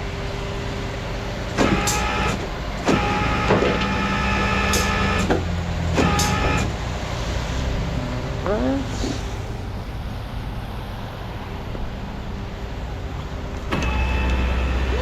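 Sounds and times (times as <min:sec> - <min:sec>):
hydraulics whining: 0:00.0 - 0:15.0
truck engine running: 0:00.0 - 0:15.0.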